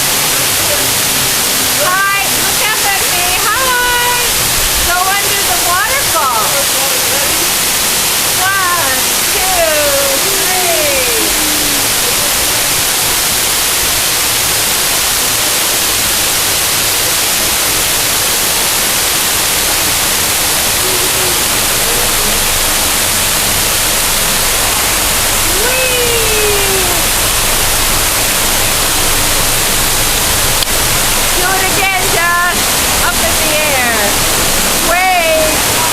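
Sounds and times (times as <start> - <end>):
waterfall pouring: 0.0 - 35.9.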